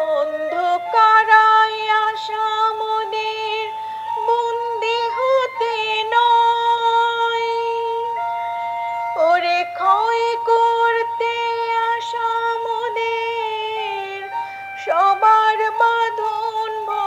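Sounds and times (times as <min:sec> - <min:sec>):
slow melodic music: 0:00.0 - 0:17.0.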